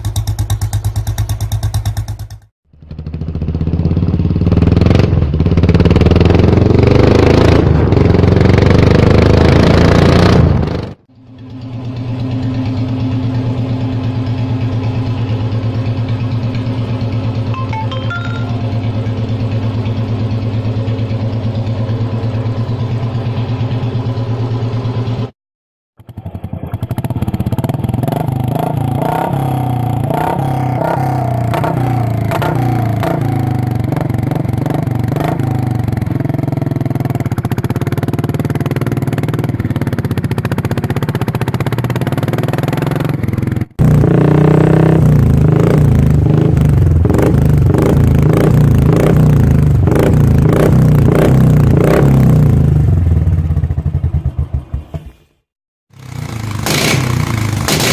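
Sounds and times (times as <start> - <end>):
motorcycle engine idling: 0.0 - 6.8, 11.1 - 25.3, 26.0 - 44.2, 44.9 - 55.2, 56.0 - 57.8
loud motorcycle exhaust: 0.0 - 25.3, 26.0 - 55.2, 55.9 - 57.9
motorcycle engine revving: 0.0 - 25.4, 26.0 - 57.9.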